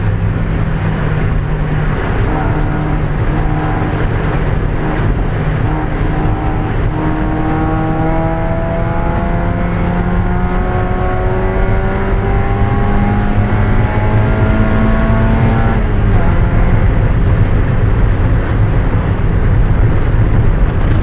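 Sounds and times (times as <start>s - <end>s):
car engine racing under load: 0.0s - 21.0s.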